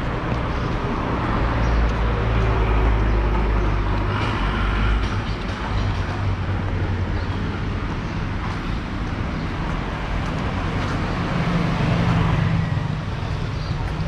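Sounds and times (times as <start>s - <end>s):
passing cars and motorbikes: 0.0s - 14.0s.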